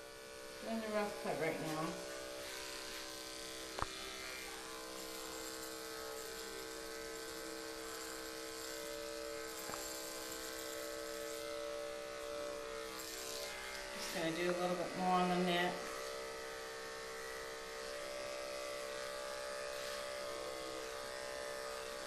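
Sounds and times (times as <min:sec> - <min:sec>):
electric clippers buzzing: 0:00.0 - 0:22.0.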